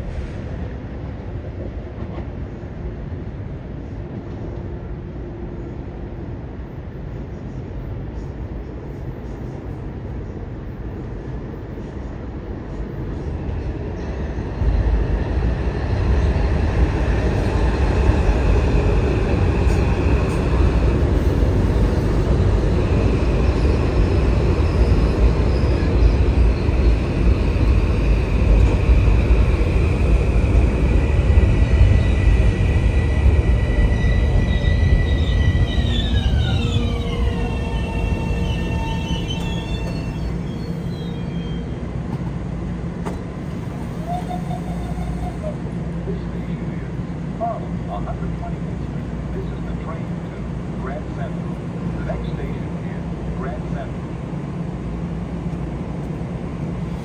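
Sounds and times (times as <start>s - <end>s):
train rumbling through station: 0.0s - 57.0s.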